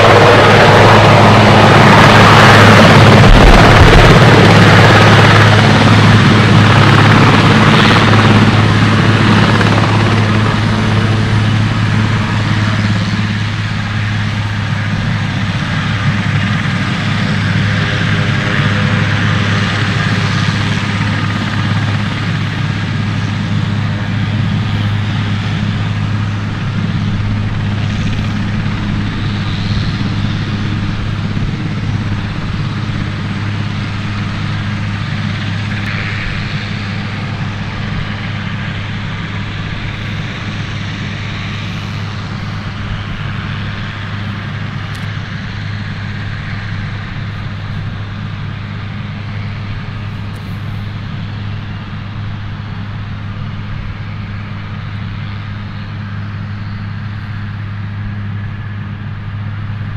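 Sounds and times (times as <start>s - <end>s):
helicopter rotor hum: 0.0s - 59.9s
helicopter turbine whine: 0.0s - 59.9s.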